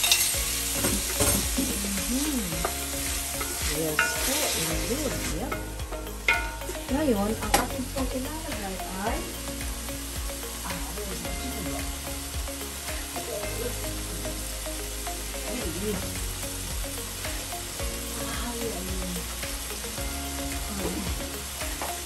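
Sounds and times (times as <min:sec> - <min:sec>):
food frying in oil: 0:00.0 - 0:22.0.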